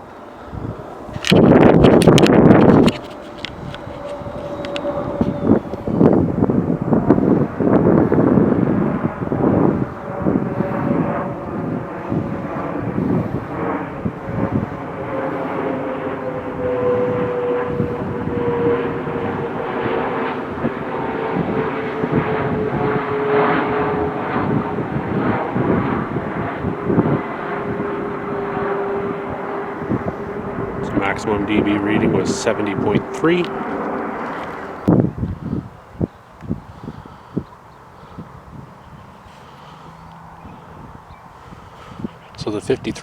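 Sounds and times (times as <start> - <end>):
airplane engine drone overhead: 0.0 - 43.0.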